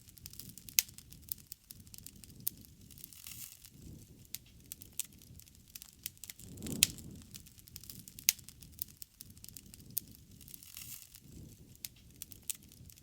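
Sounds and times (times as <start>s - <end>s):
wood bonfire crackling: 0.0s - 13.0s.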